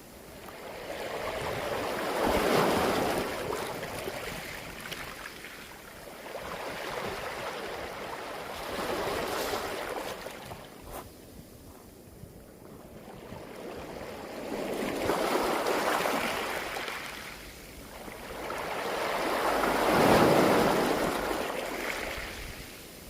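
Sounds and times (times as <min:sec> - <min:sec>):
waves washing on pebble beach: 0:00.4 - 0:10.7, 0:14.1 - 0:23.0.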